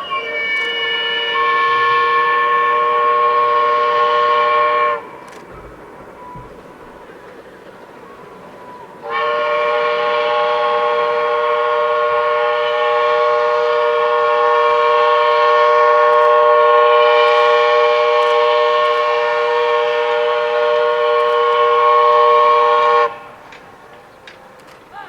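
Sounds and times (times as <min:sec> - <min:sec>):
steam locomotive whistle: 0:00.0 - 0:05.2, 0:08.1 - 0:23.4.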